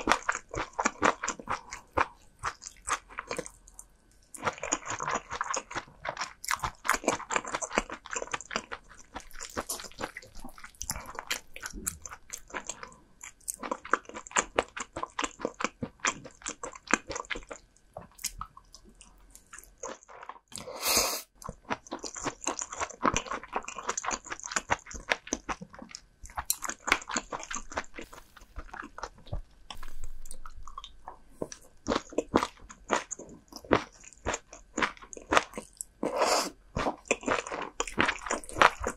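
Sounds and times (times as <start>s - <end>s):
crisp crunchy chewing: 0.0s - 20.7s, 21.4s - 38.9s.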